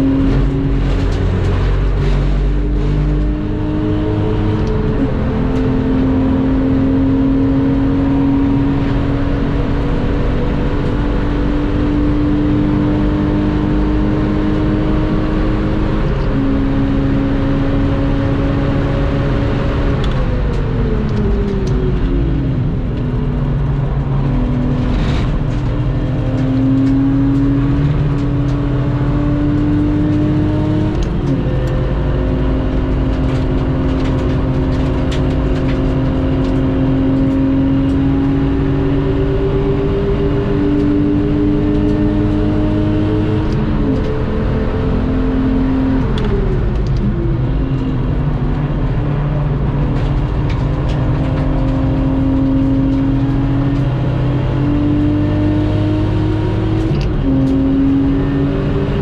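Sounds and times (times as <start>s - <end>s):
car engine accelerating through gears: 0.0s - 59.0s
road and wind noise: 0.0s - 59.0s.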